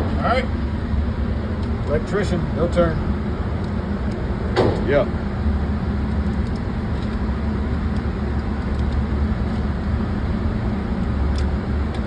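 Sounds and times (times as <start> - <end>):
ventilation rumble: 0.0 - 12.0.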